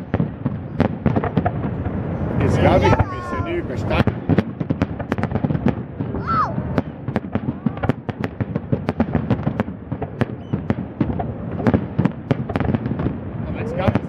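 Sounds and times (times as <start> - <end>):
distant firework bangs: 0.0 - 14.0.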